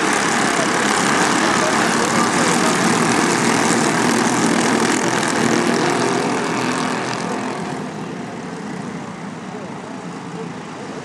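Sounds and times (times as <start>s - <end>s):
kart engines revving: 0.0s - 11.0s.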